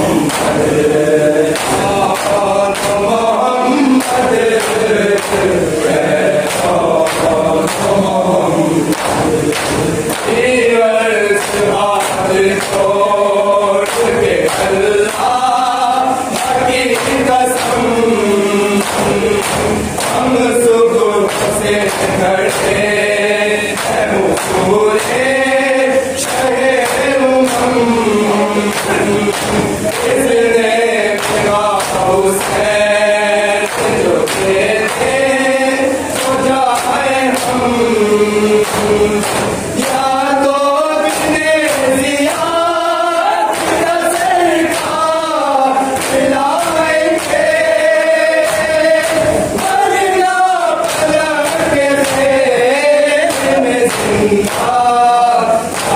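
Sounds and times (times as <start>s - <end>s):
men chanting a lament: 0.0s - 55.9s
hands slapping on chests: 0.1s - 13.0s, 13.8s - 55.9s.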